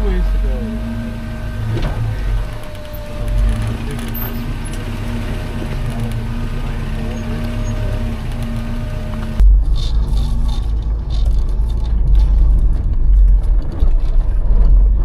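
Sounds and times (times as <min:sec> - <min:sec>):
vehicle engine low drone: 0:00.0 - 0:15.0.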